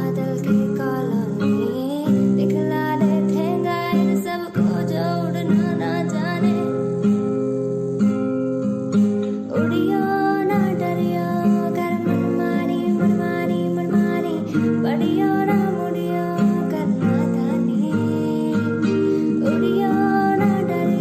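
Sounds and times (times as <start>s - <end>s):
strummed acoustic guitar: 0.0s - 21.0s.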